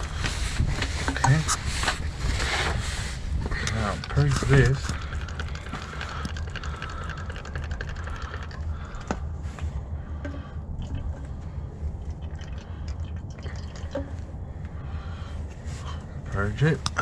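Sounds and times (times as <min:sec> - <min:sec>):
liquid handling sounds: 0:00.0 - 0:14.7
steady low rumble: 0:00.0 - 0:17.0.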